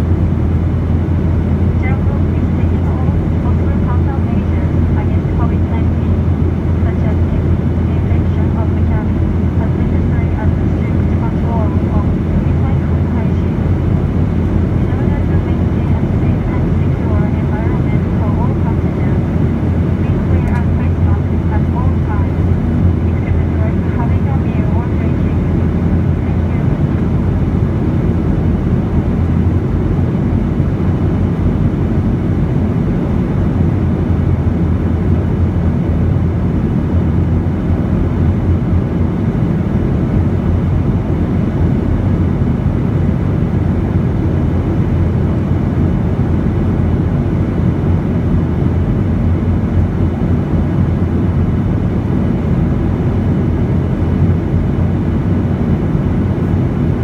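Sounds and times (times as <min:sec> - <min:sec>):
airplane cabin engine and airflow noise: 0:00.0 - 0:57.0.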